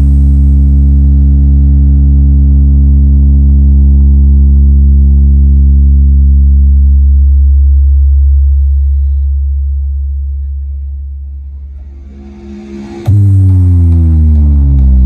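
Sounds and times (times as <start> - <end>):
deep bass tone droning: 0.0 - 15.0.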